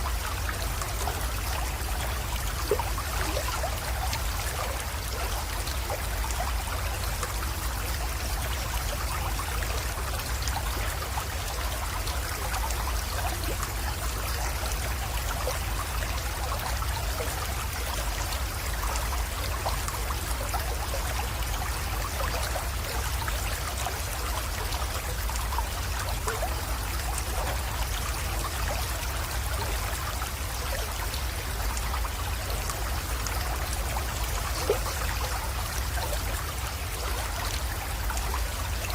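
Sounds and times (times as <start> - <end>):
creek flowing and trickling: 0.0 - 38.9
small water splashes: 0.0 - 38.9.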